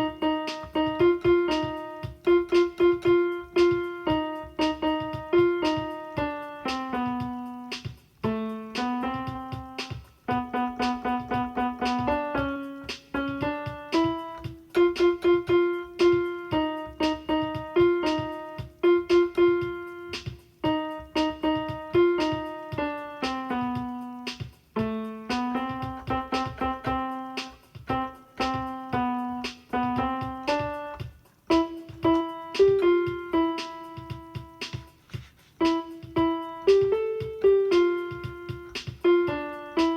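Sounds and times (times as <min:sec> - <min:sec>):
solo piano melody: 0:00.0 - 0:39.9.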